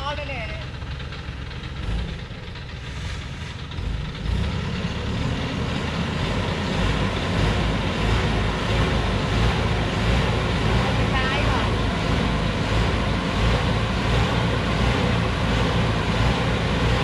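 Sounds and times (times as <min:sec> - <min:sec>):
diesel truck engine pulling uphill: 0:00.0 - 0:17.0.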